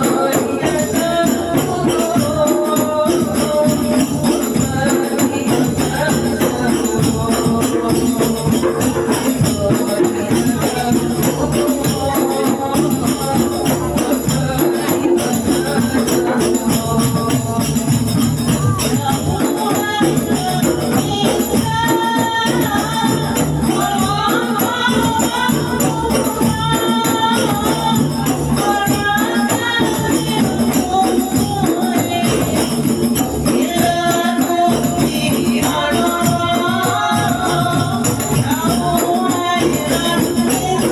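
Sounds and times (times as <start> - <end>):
group singing a devotional chant: 0.0 - 40.9
jingling hand percussion: 0.0 - 40.9.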